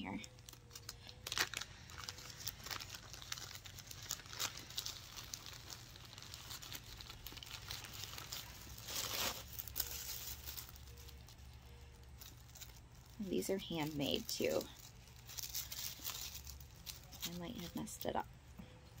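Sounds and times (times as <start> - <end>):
plastic and paper crinkling: 0.0 - 19.0.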